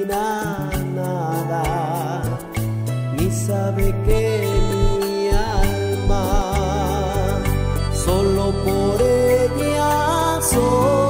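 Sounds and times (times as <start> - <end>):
romantic song instrumental music: 0.0 - 11.0.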